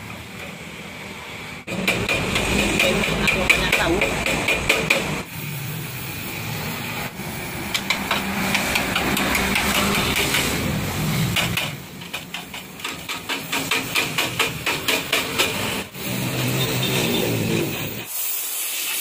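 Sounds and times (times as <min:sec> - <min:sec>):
welding torch running: 0:00.0 - 0:19.0.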